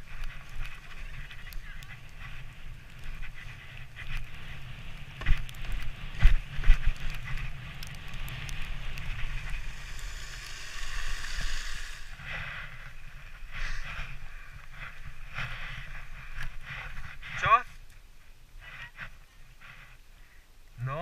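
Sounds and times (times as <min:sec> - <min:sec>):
sledge runners hissing over snow: 0:00.0 - 0:17.4
low wind rumble: 0:00.0 - 0:20.8.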